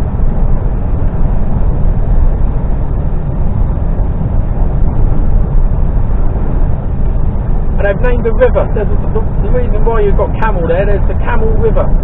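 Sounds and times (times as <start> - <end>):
lorry diesel engine rumble: 0.0 - 12.0
road noise: 0.0 - 12.0.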